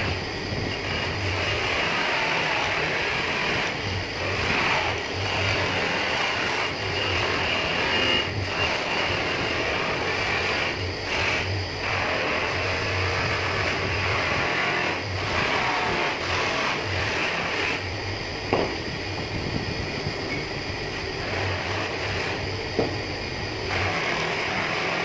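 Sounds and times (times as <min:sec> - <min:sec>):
buffing wheel hissing on metal: 0:00.0 - 0:25.0
polishing motor humming: 0:00.0 - 0:25.0.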